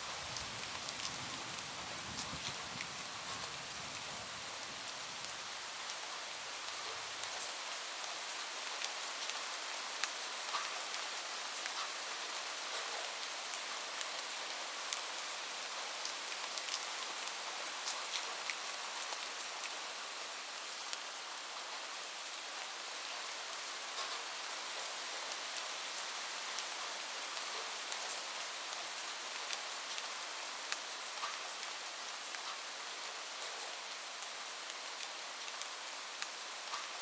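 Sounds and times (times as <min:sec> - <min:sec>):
rain hissing on a roof: 0:00.0 - 0:37.0.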